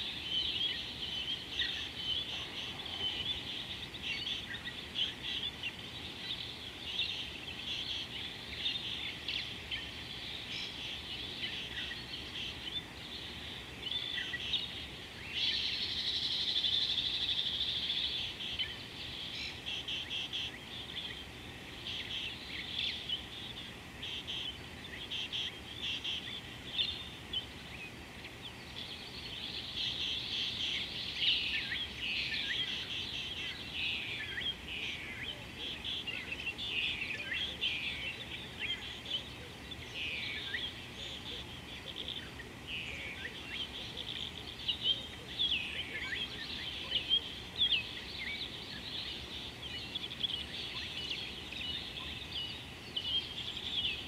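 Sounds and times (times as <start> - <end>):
faint steady hiss: 0.0 - 54.0
wild birds chirping and trilling: 0.0 - 54.0.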